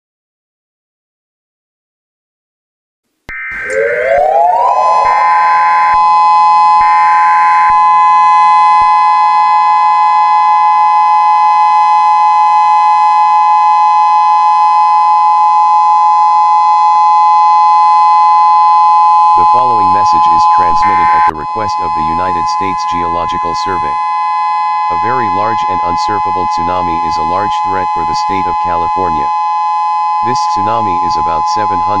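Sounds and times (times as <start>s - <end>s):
emergency siren two-note tone: 3.3s - 32.0s.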